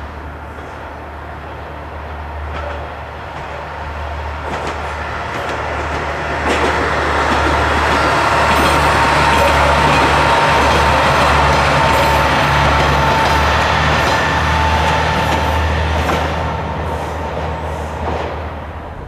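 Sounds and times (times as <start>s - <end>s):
diesel train engine drone: 0.0s - 19.0s.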